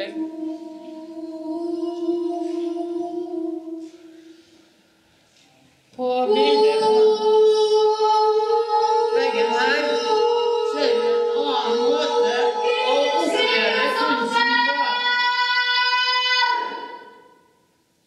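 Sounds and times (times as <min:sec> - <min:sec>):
voices singing unaccompanied: 0:00.0 - 0:04.6, 0:06.0 - 0:17.5.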